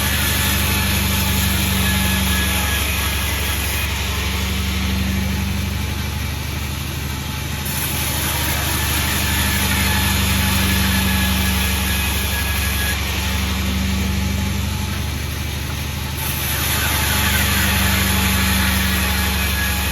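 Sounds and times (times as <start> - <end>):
sawmill engine running: 0.0 - 19.9.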